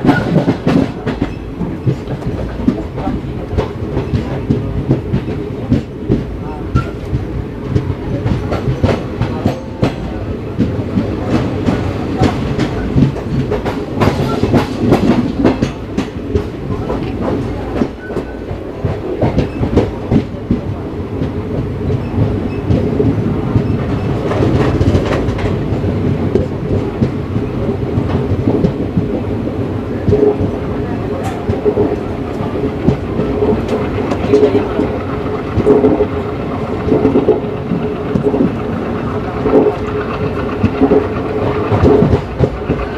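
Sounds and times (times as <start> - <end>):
train wheels rumbling on rail: 0.0 - 42.9
wheels clicking over rail joints: 0.0 - 42.9.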